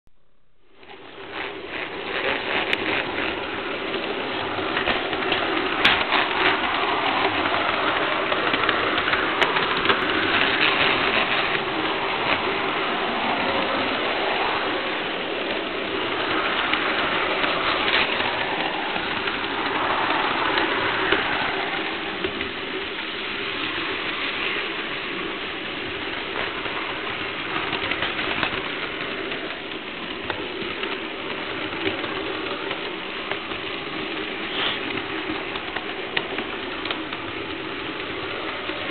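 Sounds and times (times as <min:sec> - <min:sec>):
wheels rattling on rail: 0:00.7 - 0:38.9
model train motor hum: 0:00.8 - 0:38.9.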